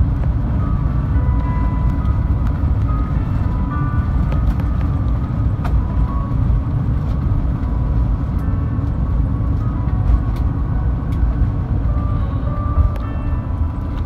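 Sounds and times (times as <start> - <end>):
low cabin rumble: 0.0 - 14.0.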